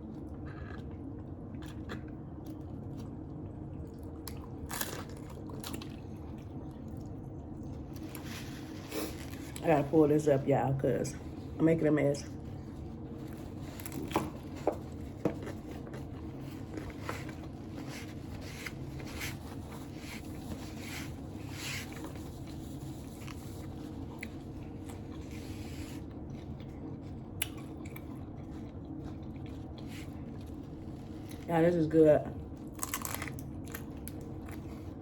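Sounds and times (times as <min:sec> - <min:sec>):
chewing with crunches: 0:00.0 - 0:09.7, 0:12.2 - 0:31.5, 0:32.4 - 0:35.0
steady low hum: 0:00.0 - 0:35.0.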